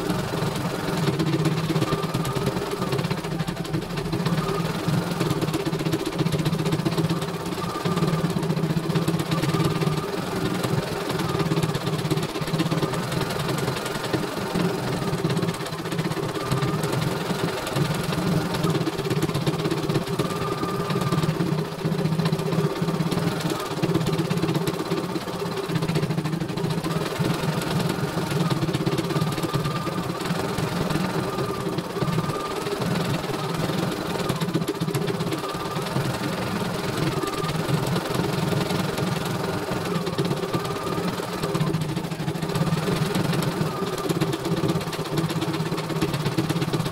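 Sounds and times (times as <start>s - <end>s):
embroidery machine stitching: 0.0s - 46.9s.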